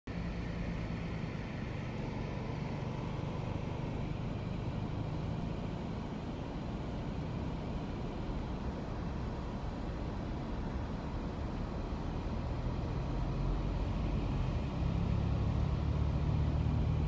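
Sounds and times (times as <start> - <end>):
car driving on highway: 0.1 - 17.0.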